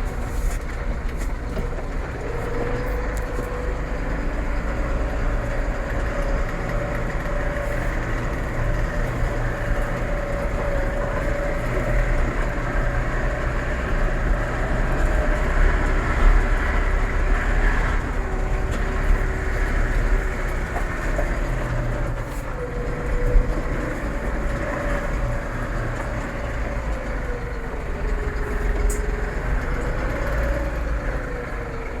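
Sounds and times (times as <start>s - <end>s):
tractor engine rumble: 0.0s - 32.0s
tractor gearbox whine: 0.0s - 32.0s.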